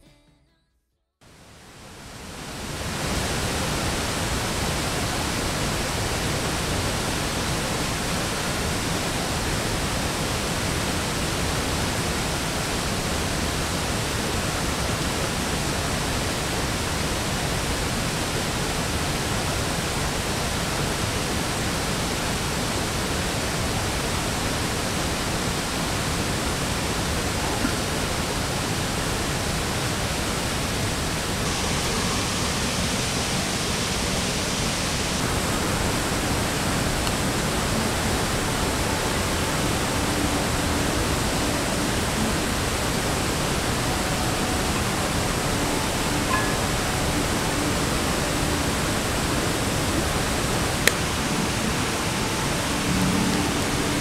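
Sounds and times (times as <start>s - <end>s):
small waterfall rushing: 1.3s - 54.0s.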